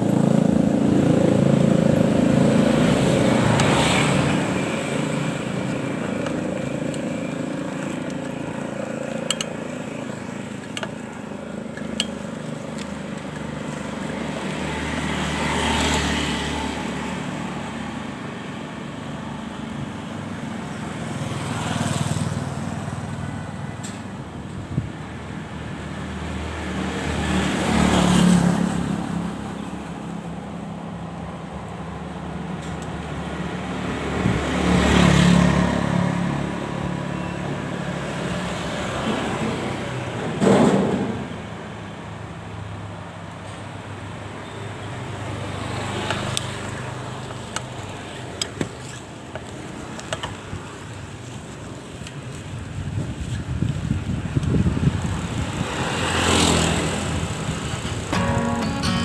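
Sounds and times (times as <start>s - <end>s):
vehicles passing by: 0.0s - 40.4s, 41.6s - 59.0s.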